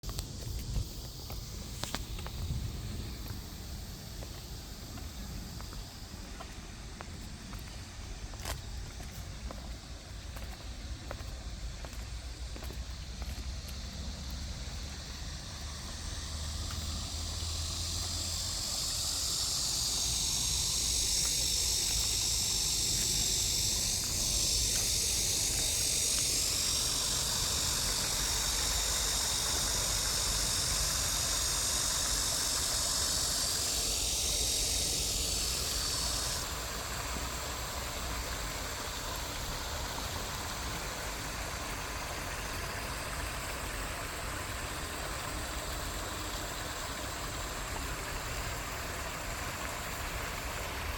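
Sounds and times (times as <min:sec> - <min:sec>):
brook flowing: 0:00.0 - 0:50.9
high even hiss: 0:00.0 - 0:50.9.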